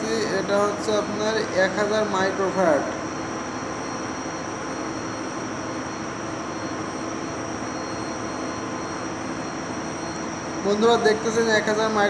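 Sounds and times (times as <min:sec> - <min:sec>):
faint high-pitched whines: 0:00.0 - 0:12.0.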